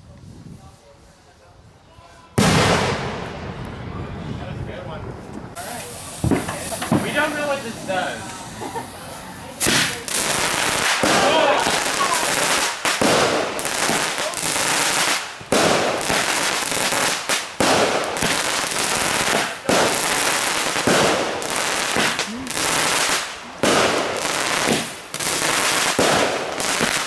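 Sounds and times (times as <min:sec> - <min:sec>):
fireworks crackling and hissing: 0:00.0 - 0:27.0
loud fireworks crackling bursts: 0:00.1 - 0:27.0.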